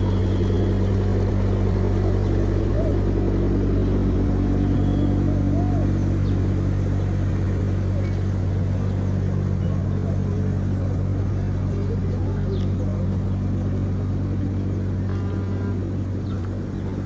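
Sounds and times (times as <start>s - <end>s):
large engine idling: 0.0s - 17.0s
traffic noise: 0.0s - 17.0s.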